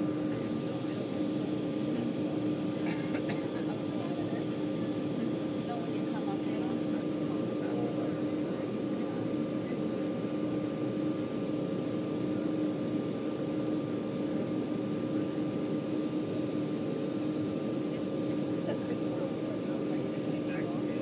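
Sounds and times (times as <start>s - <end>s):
jet engine drone in cabin: 0.0s - 21.0s.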